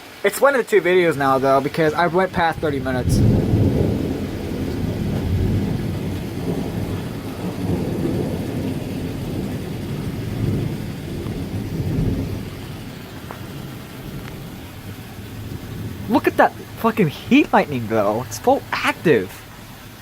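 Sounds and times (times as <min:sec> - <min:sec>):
thunder rumbling: 0:01.1 - 0:20.0.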